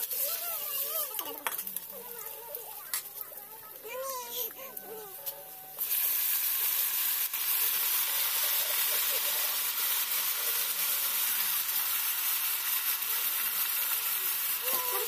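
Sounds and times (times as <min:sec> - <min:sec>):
meat frying in hot oil: 0:00.0 - 0:04.5, 0:05.8 - 0:15.0.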